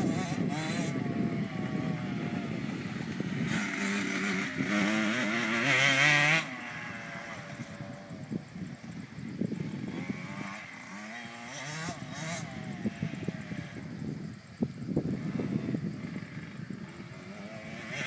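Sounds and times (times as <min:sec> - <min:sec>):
dirt bike engine revving: 0:00.0 - 0:08.6, 0:09.4 - 0:14.1, 0:14.9 - 0:18.0.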